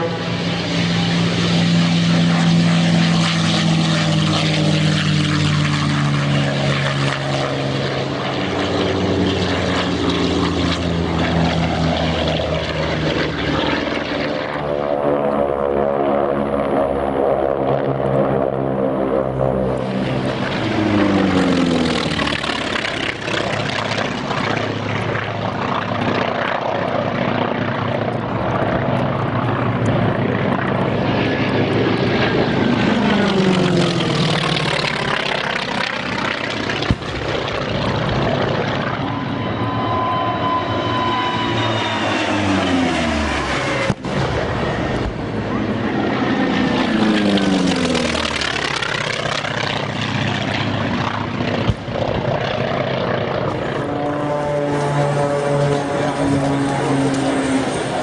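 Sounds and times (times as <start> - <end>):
propeller plane passing low: 0.0 - 58.0
propeller planes droning overhead: 0.0 - 58.0.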